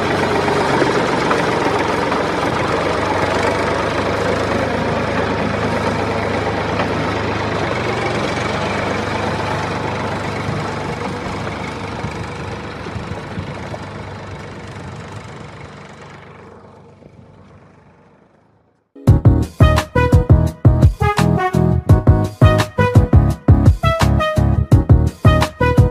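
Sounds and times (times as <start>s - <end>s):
heavy diesel engine humming: 0.0s - 25.9s.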